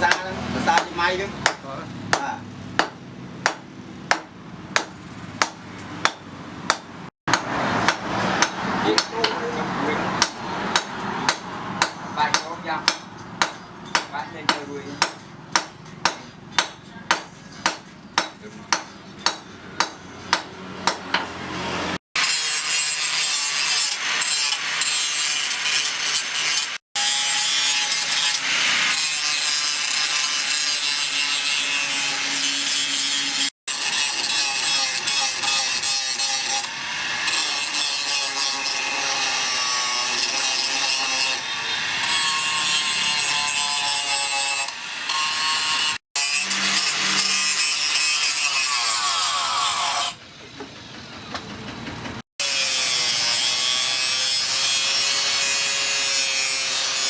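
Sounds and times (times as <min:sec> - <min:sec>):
angle grinder grinding steel: 0:05.4 - 0:17.8, 0:18.5 - 0:50.2, 0:52.4 - 0:57.0.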